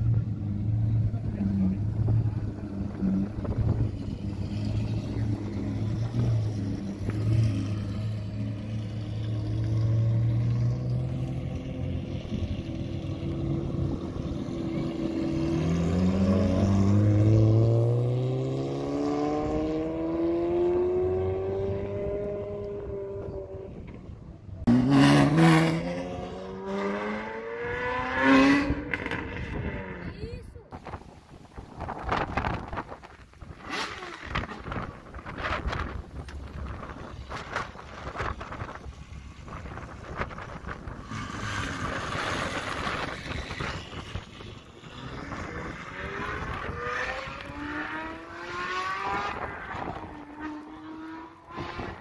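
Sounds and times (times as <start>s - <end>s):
car accelerating away: 0.0s - 24.0s, 24.6s - 30.1s, 37.5s - 52.0s.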